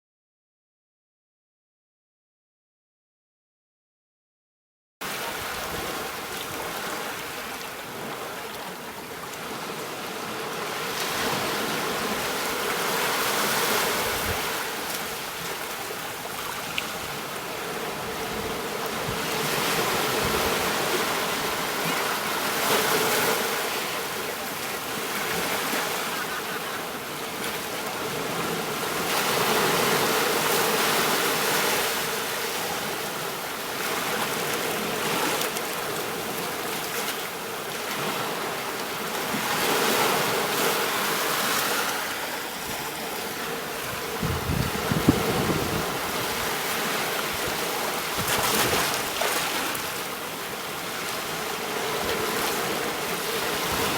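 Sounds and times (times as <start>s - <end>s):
sea waves washing ashore: 5.0s - 53.9s.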